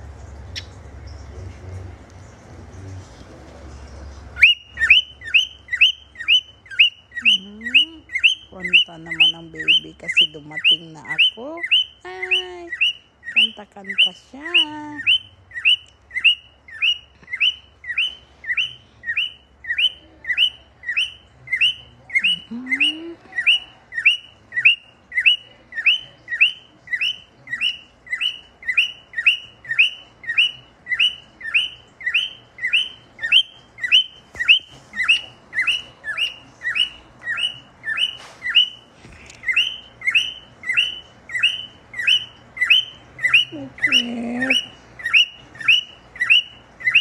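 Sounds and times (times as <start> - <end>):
cockatiel chirping: 4.4 - 38.8, 39.4 - 47.0.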